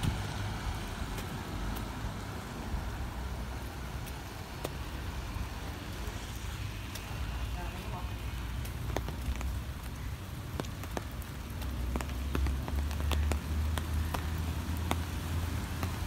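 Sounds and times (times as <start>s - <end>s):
rain on road and trees: 0.0s - 16.0s.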